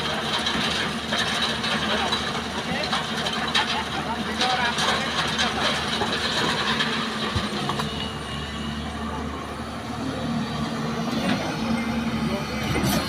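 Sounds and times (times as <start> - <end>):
heavy machinery diesel engine running: 0.0 - 13.0.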